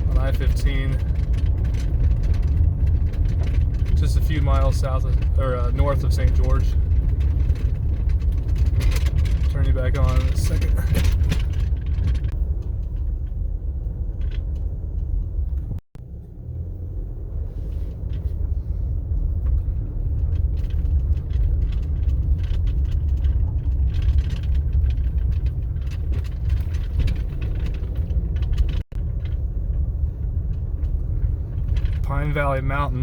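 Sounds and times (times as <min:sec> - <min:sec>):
light rattling: 0:00.0 - 0:33.0
vehicle driving on dirt road: 0:00.0 - 0:33.0.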